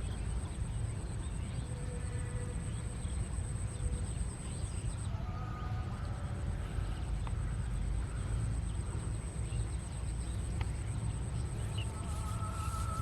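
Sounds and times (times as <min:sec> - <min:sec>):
faint chirps: 0:00.0 - 0:13.0
thin high-pitched whine: 0:00.0 - 0:13.0.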